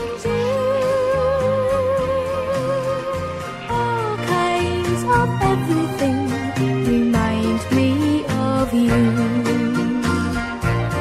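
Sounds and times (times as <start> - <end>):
bass and chords backing: 0.0 - 11.0.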